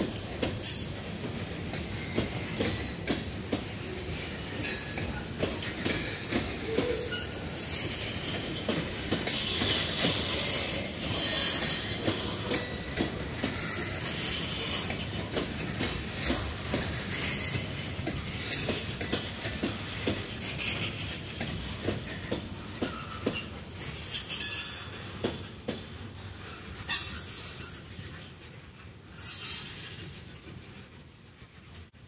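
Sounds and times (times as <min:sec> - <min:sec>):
train wheels clicking over rail joints: 0:00.0 - 0:32.0.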